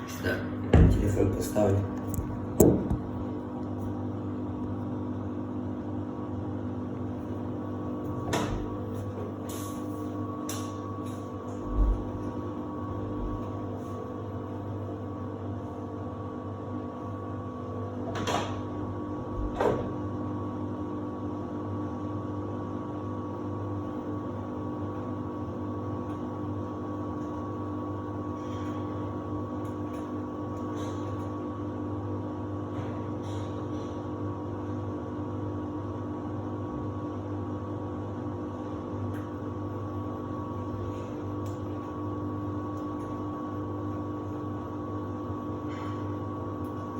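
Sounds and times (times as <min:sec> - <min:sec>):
washer-dryer humming and whining: 0:00.0 - 0:46.9.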